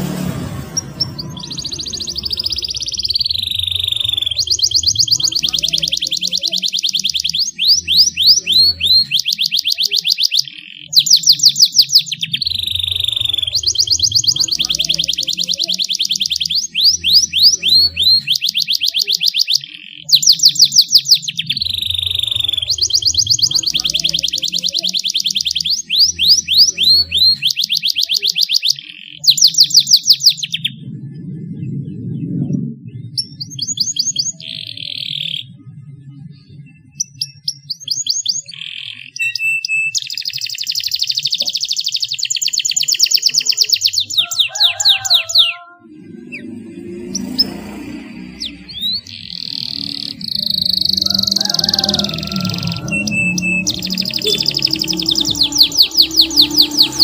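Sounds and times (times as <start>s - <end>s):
canary singing trills: 0.5s - 57.0s.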